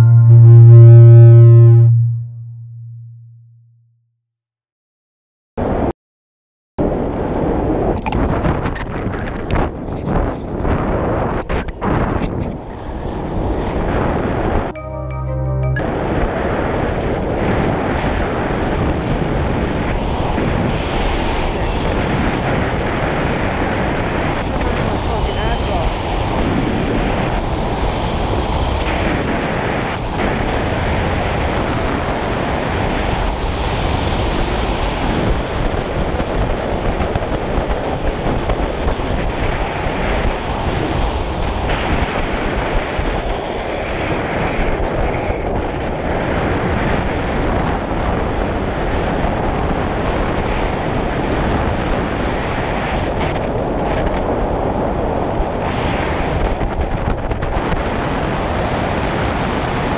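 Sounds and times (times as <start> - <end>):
wind buffeting microphone: 6.8 - 14.7, 16.1 - 59.9.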